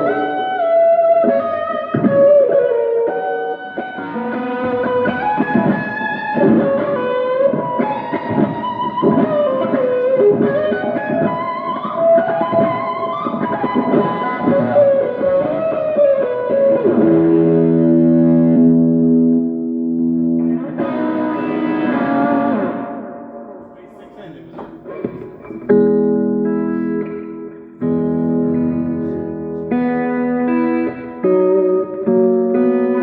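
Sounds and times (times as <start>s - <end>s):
distorted electric guitar: 0.0s - 33.0s.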